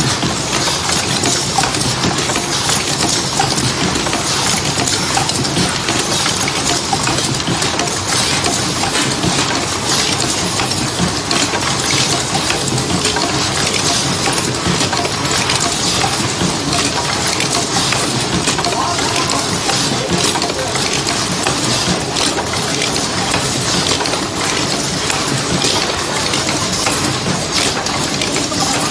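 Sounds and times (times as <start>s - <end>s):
machine clattering metallic clicks: 0.0s - 28.9s.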